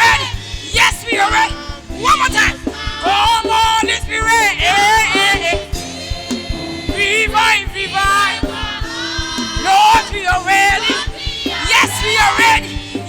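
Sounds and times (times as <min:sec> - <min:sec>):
band with steady drum beat: 0:00.0 - 0:13.0
gospel vocals: 0:00.0 - 0:13.0.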